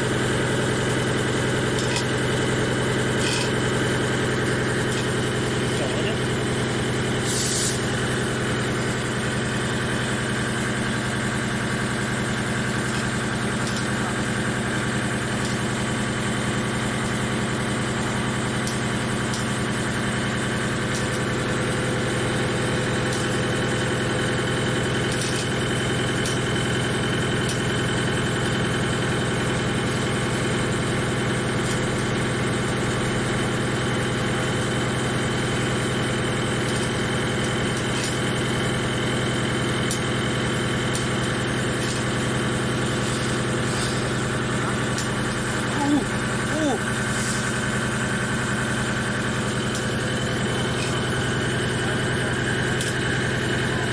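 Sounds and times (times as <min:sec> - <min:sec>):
lathe machine hum with high whine: 0:00.0 - 0:53.9.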